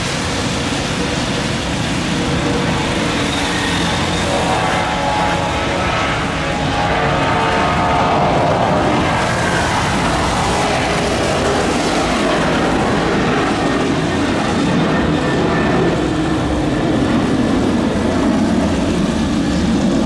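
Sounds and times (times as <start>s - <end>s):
jet engines roaring at takeoff: 0.0s - 20.0s.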